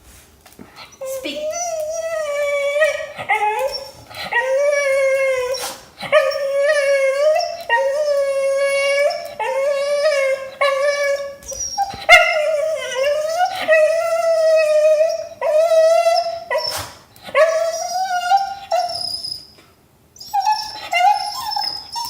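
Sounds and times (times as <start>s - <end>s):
dog howling: 1.0s - 19.3s.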